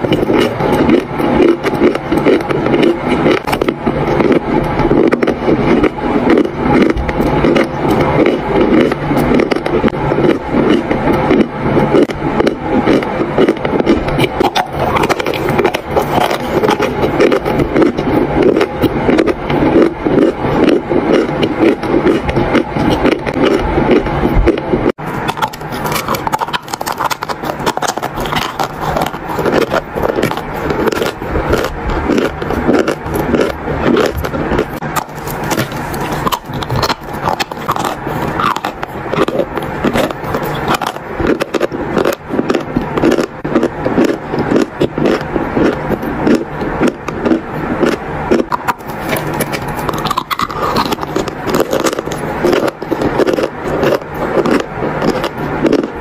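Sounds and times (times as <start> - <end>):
chewing dry chalk crunches: 0.0 - 56.0.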